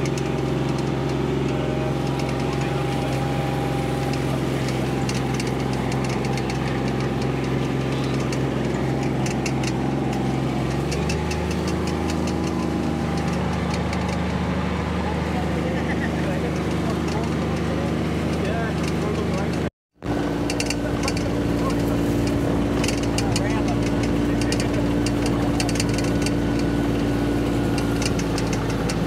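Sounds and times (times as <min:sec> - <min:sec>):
light clicking rattles: 0:00.0 - 0:29.0
vehicle engine running: 0:00.0 - 0:29.0.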